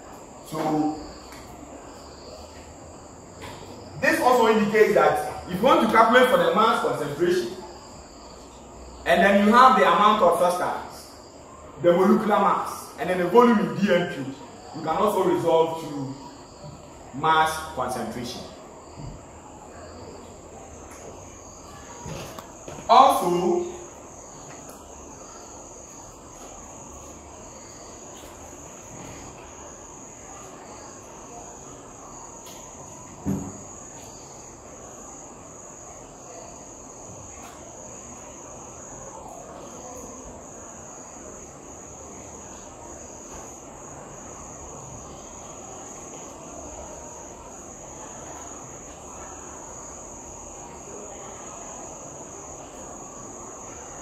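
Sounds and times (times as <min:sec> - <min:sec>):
faint room hiss: 0:00.0 - 0:54.0
insects chirring: 0:00.0 - 0:54.0.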